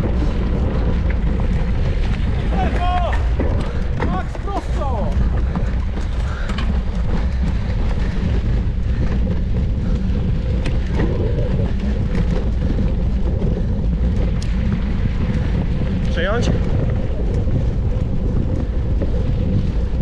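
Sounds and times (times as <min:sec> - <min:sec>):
bike clicks and rattles: 0:00.0 - 0:20.0
wind buffeting microphone: 0:00.0 - 0:20.0.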